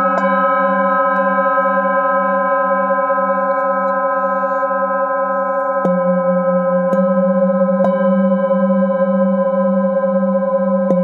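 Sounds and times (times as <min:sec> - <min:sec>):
singing bowl struck: 0:00.0 - 0:11.0
singing bowls ringing: 0:00.0 - 0:11.0.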